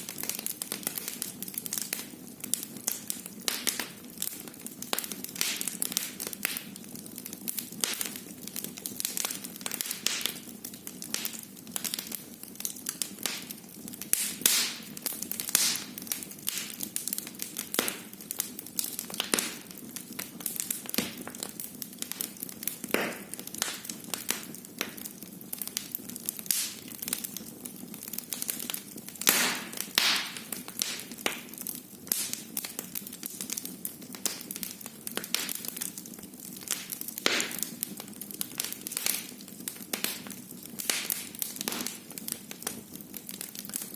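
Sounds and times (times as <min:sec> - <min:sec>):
low hiss of fire: 0:00.0 - 0:43.9
wood fire crackling and popping: 0:00.0 - 0:43.9.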